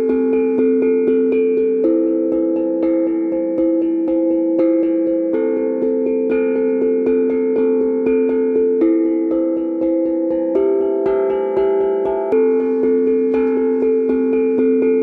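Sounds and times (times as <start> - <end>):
held ringing tones: 0.0 - 15.0
repeated plucked notes: 0.0 - 15.0.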